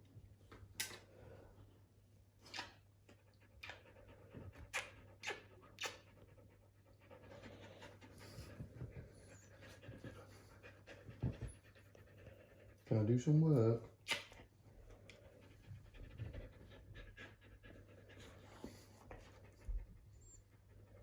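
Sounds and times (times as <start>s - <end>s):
dog panting: 3.1s - 21.0s.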